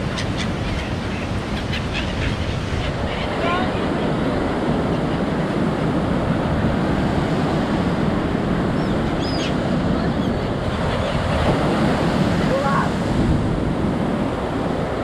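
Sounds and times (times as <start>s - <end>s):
sea surf: 0.0s - 15.0s.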